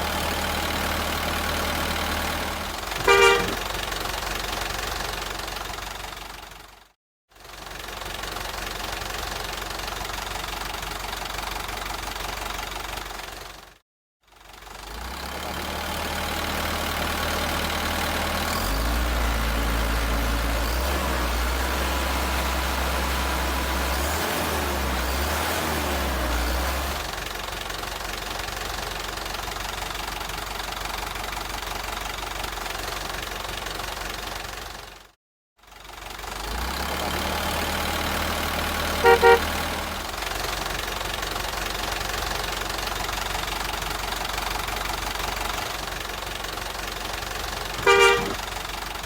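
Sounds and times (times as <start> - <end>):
diesel truck engine idling and revving: 0.0 - 49.0.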